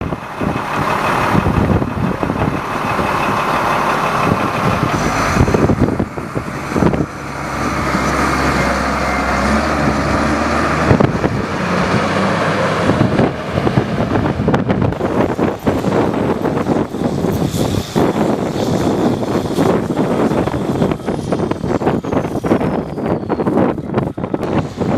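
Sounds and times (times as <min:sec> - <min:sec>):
loader diesel engine running: 0:00.0 - 0:24.9.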